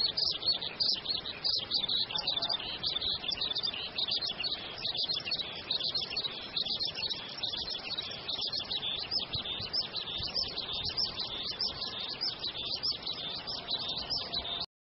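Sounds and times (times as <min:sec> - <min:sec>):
birds chirping: 0:00.0 - 0:14.7.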